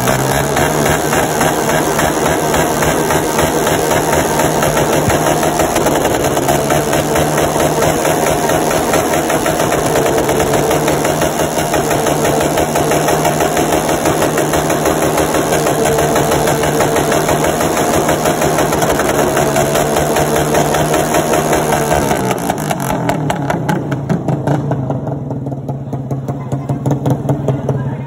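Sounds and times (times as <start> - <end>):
motorcycle engine running loudly: 0.0 - 28.0.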